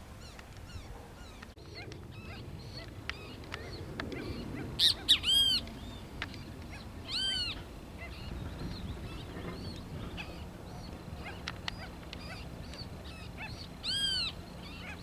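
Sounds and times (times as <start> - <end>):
birds chirping: 0.0 - 15.0
clear arched bird calls: 0.1 - 15.0
sharp loud bird calls: 0.2 - 15.0.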